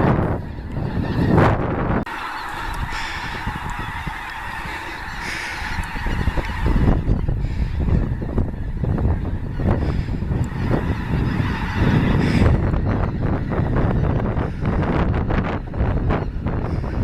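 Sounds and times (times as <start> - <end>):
flock of geese honking: 0.0 - 17.0
wind rumble on microphone: 0.0 - 17.0.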